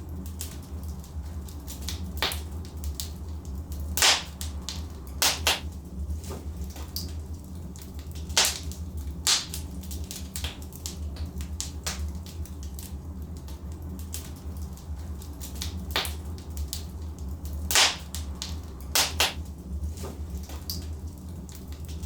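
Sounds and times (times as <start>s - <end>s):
low rumble of fire: 0.0s - 22.0s
wood logs crackling in fireplace: 0.0s - 22.0s.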